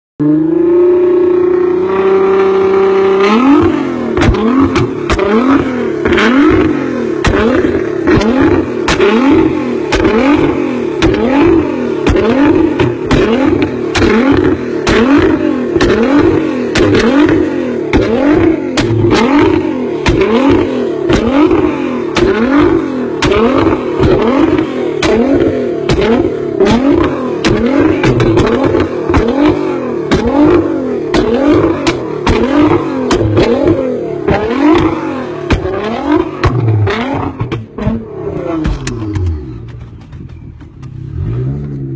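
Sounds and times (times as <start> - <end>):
car engine revving: 0.2 - 41.9
exhaust cracks: 3.2 - 41.9.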